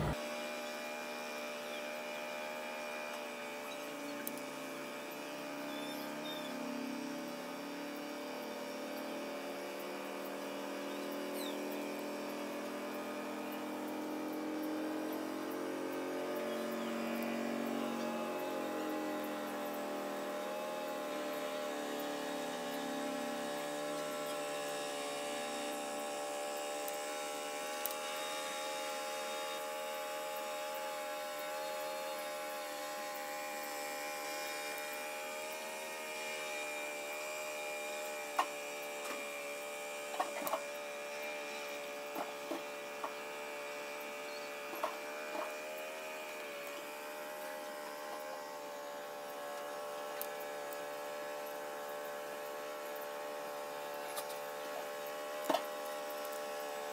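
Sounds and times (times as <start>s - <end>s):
electrical hum: 0.0s - 56.9s.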